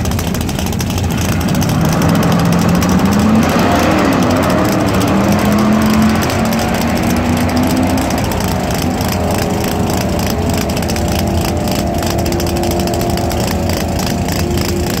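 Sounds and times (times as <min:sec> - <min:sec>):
big engine running at low revs: 0:00.0 - 0:15.0.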